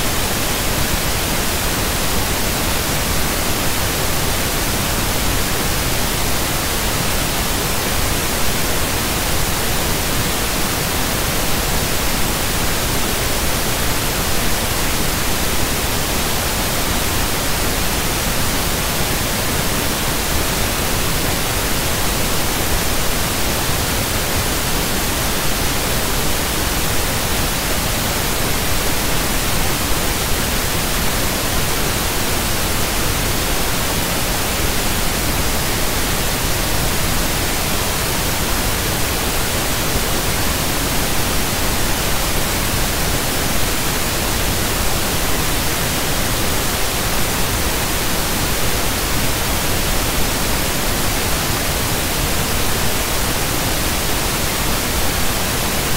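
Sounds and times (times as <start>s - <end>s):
static hiss: 0.0s - 55.9s.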